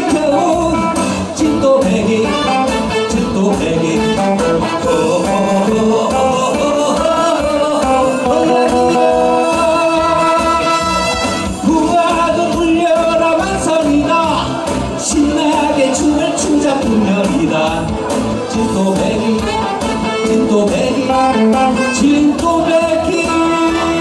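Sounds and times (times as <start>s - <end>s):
band with steady drum beat: 0.0s - 24.0s
man singing into a microphone: 0.0s - 24.0s.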